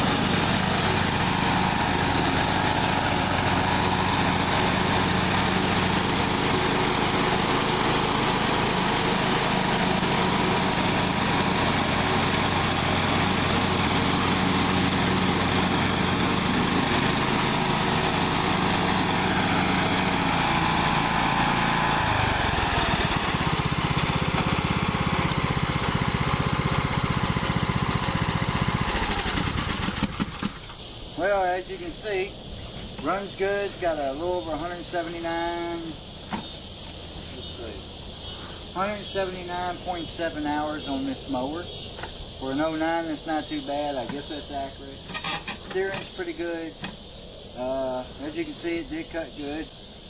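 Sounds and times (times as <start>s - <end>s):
riding lawn mower engine running: 0.0s - 50.0s.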